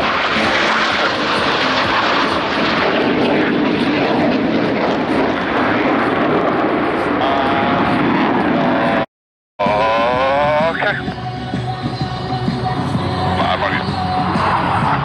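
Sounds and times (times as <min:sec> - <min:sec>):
jet engines overhead: 0:00.0 - 0:15.0.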